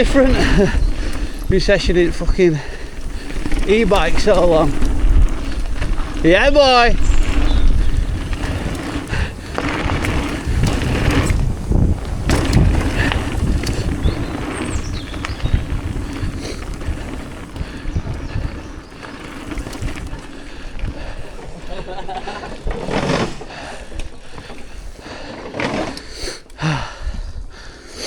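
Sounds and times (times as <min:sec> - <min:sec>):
wind buffeting microphone: 0:00.0 - 0:22.9
bike knocking and rattling: 0:00.0 - 0:26.2
tyres rumbling over dirt: 0:00.0 - 0:26.2.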